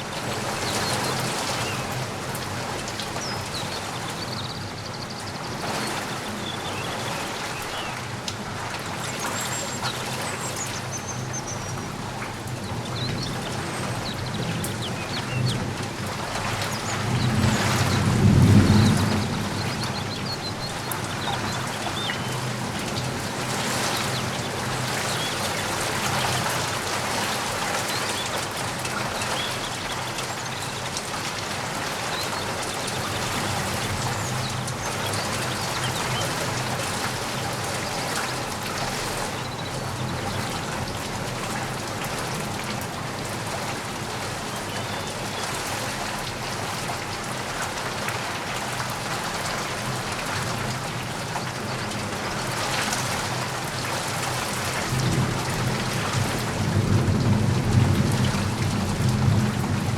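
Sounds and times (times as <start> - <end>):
raindrops striking close by: 0.0 - 59.9
steady rain falling: 0.0 - 59.9.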